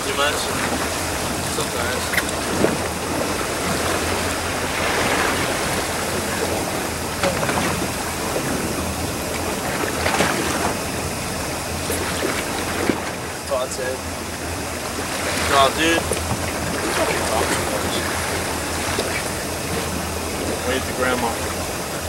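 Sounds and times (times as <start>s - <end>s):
boat engine droning: 0.0s - 22.0s
wake water rushing: 0.0s - 22.0s
wind: 0.0s - 22.0s.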